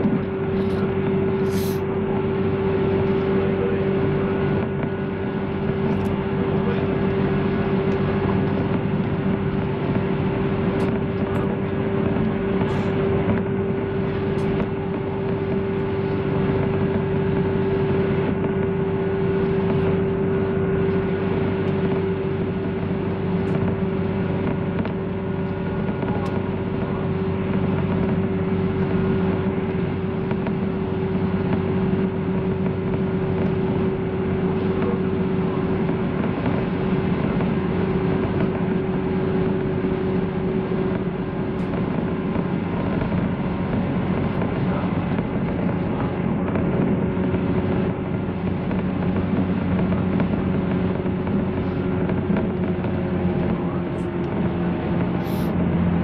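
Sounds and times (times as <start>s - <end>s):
train rumble with hum: 0.0s - 56.0s.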